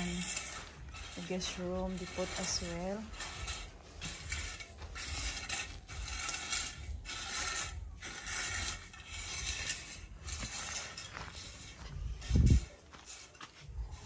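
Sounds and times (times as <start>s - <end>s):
metal rake dragged through gravel: 0.0s - 14.0s.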